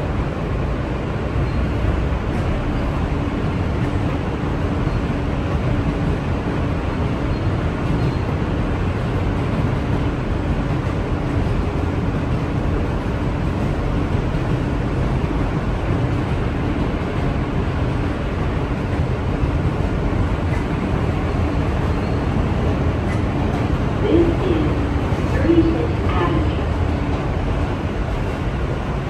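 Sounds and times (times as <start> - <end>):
subway car rumble: 0.0 - 29.0.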